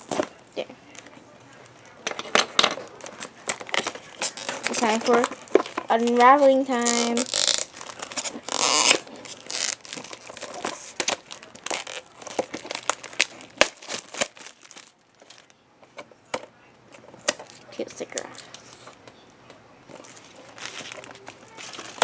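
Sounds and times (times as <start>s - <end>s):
plastic bag crinkling and tearing: 0.0s - 15.6s, 19.9s - 22.0s.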